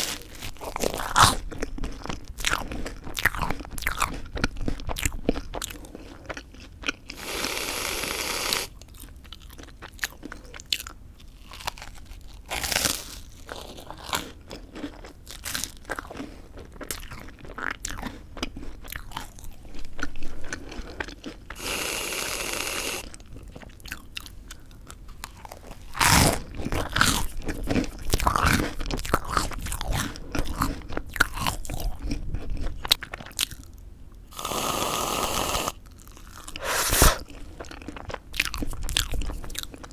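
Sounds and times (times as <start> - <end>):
crunching toast bites: 0.0 - 7.2, 8.8 - 21.6, 23.1 - 33.8, 35.9 - 39.9.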